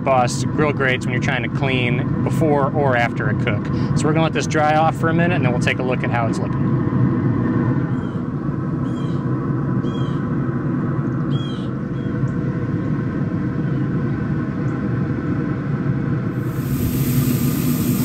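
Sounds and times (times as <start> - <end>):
grill fan humming: 0.0 - 18.0.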